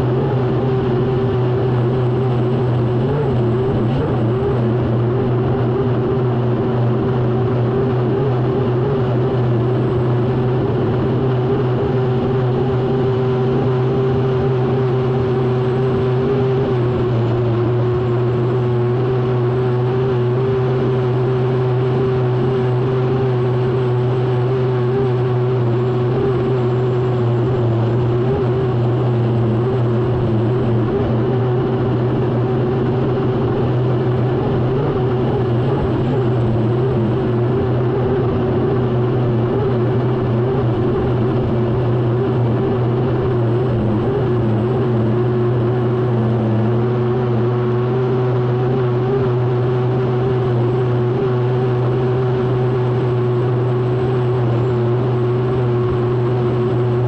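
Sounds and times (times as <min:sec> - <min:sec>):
turbine engine drone and whine: 0:00.0 - 0:57.0.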